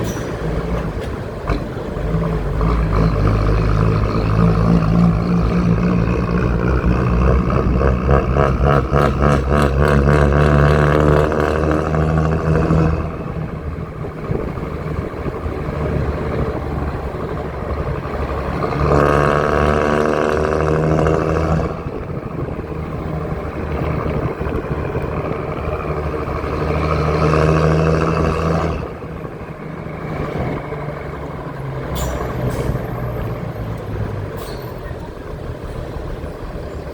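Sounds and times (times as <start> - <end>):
diesel truck engine revving: 0.0 - 36.9.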